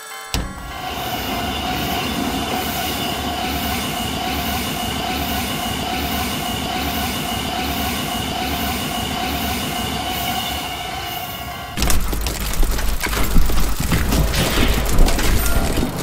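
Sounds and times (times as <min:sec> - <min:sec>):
train wheels rumbling on rails: 0:00.4 - 0:16.0.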